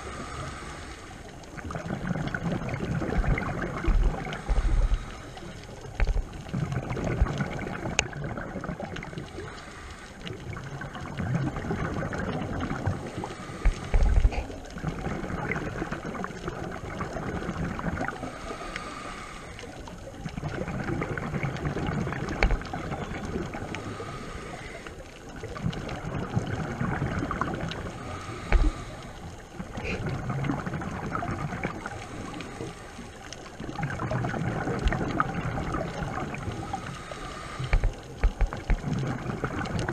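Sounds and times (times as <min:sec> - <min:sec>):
regulator bubbles underwater: 0:00.0 - 0:39.9.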